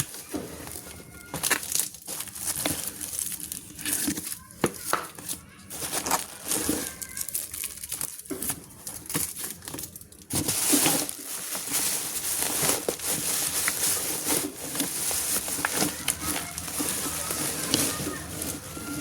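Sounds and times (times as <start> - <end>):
packaging crinkling and tearing: 0.0 - 19.0.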